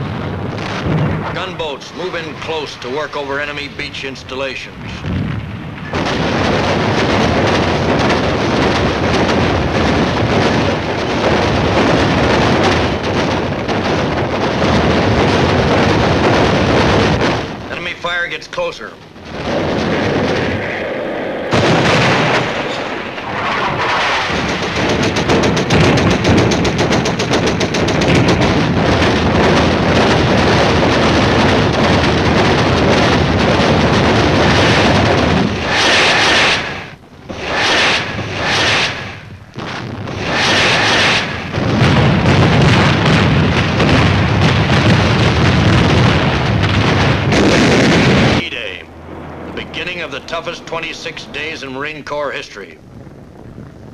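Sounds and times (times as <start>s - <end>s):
guns firing rapidly: 5.9s - 20.7s, 21.5s - 48.9s, 49.6s - 52.6s.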